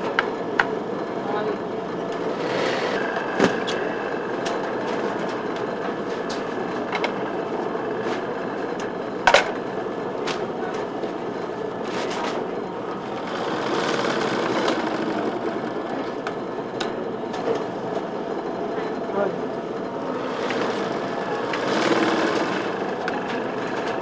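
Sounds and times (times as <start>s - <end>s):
sewing machine whirring: 0.0s - 24.0s.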